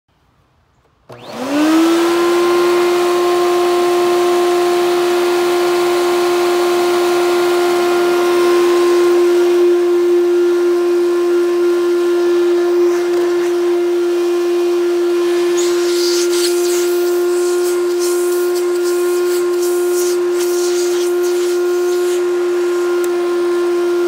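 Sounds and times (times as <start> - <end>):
vacuum cleaner motor whining: 1.1 - 24.0.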